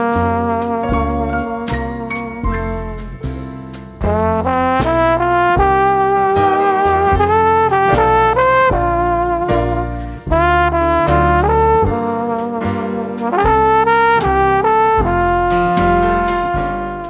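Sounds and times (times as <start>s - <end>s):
brass-led music with beat: 0.0s - 17.0s.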